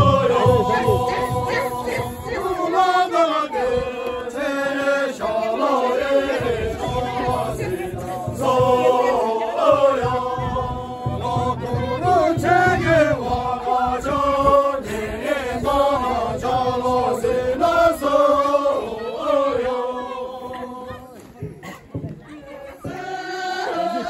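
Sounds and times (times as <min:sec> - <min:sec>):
group singing a cappella: 0:00.0 - 0:21.2, 0:22.5 - 0:24.0.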